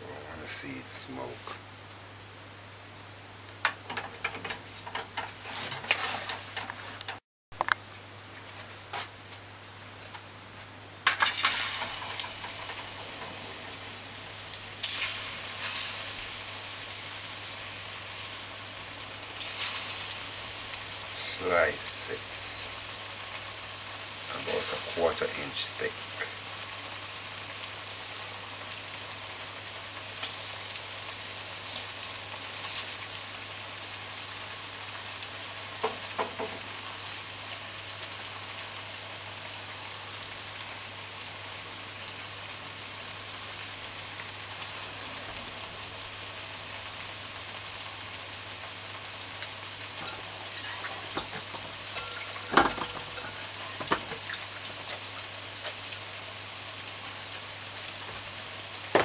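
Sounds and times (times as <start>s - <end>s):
plantain sizzling in oil: 0.5s - 7.2s, 8.0s - 59.0s.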